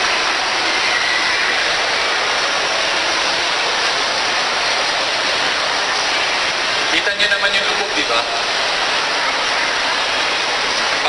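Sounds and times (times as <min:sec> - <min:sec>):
distant crowd hubbub: 0:00.0 - 0:11.0.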